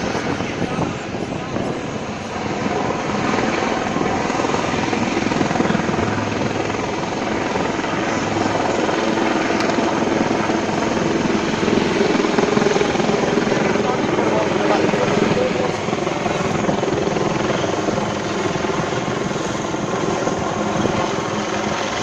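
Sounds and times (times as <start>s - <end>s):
helicopter rotors chopping: 0.0s - 22.0s.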